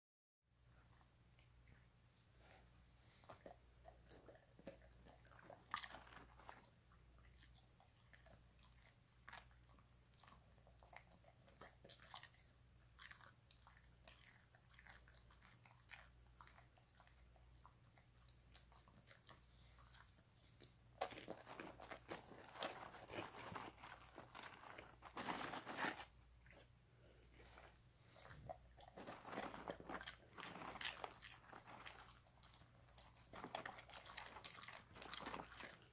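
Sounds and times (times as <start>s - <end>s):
dog crunching popcorn: 3.4s - 20.2s, 21.0s - 26.7s, 27.4s - 35.9s.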